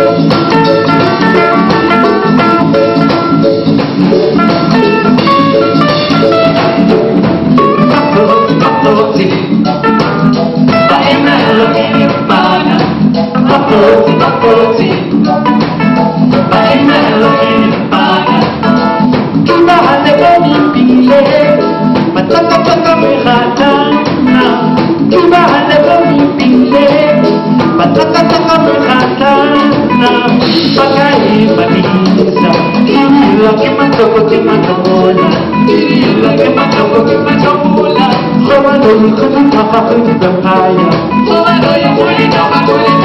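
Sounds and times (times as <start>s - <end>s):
drums: 0.0s - 43.0s
electric guitar: 0.0s - 43.0s
vocalists singing: 0.0s - 43.0s.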